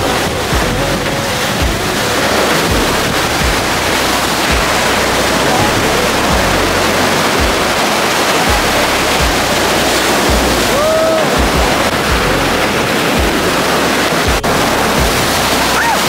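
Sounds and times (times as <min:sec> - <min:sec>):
ocean surf breaking: 0:00.0 - 0:16.0
short rising and falling cry: 0:00.7 - 0:16.0.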